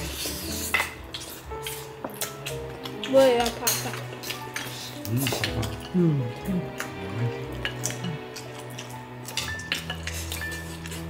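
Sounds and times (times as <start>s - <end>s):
spoons clinking against bowls: 0.0s - 6.0s, 6.7s - 11.0s
background music sustained notes: 0.0s - 11.0s.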